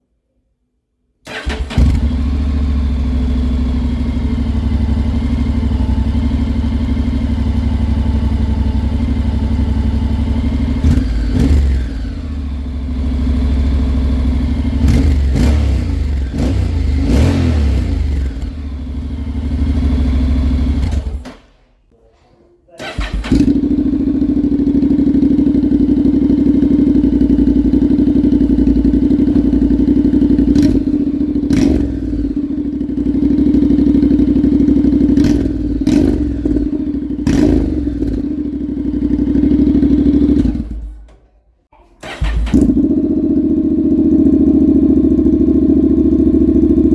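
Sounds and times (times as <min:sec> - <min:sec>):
motorcycle engine idling and revving: 0:01.3 - 0:21.5, 0:22.8 - 0:46.9.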